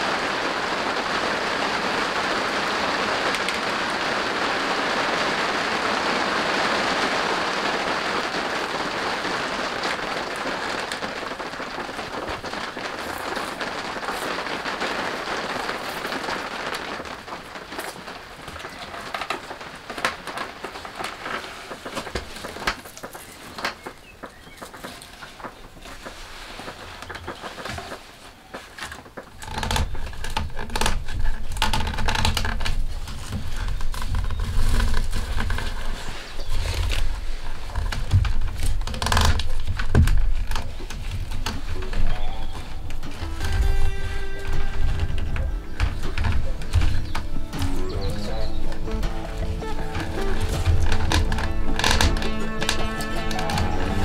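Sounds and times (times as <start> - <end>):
steady rain: 0.0 - 54.0
wooden poles clicking and knocking: 0.0 - 54.0.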